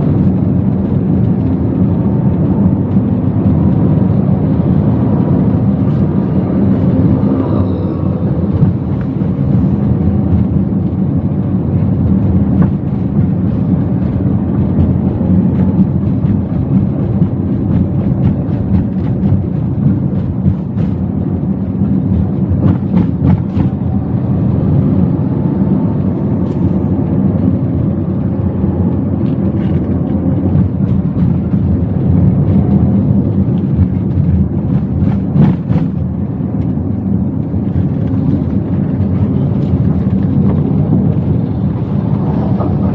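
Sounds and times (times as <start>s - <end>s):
road and engine noise in car cabin: 0.0s - 42.9s.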